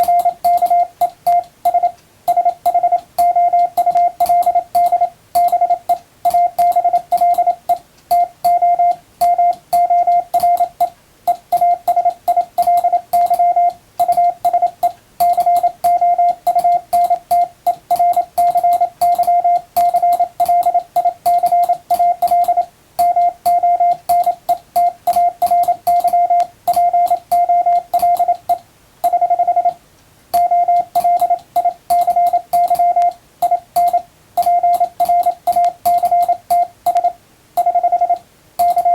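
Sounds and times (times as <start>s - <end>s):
faint keyer clicks: 0.0s - 29.8s, 30.4s - 38.9s
morse code beeps: 0.0s - 29.8s, 30.4s - 38.9s.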